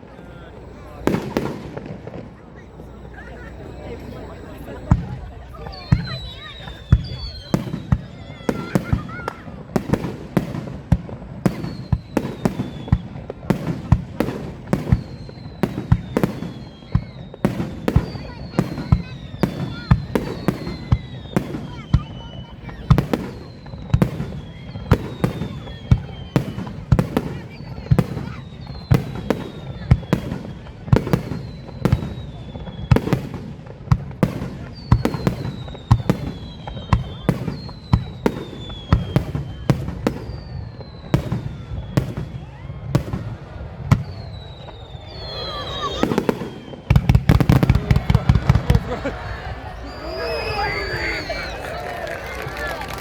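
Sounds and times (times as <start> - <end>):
firework whistles sliding down: 0.0 - 9.6, 11.5 - 13.3, 14.9 - 30.4, 31.4 - 33.2, 34.7 - 43.0, 43.8 - 53.0
fireworks bangs: 0.0 - 53.0.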